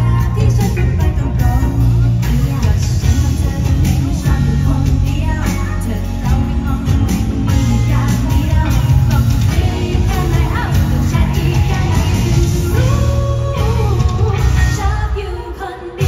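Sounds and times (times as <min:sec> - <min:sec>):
live pop band music: 0:00.0 - 0:16.0
woman singing: 0:00.0 - 0:16.0.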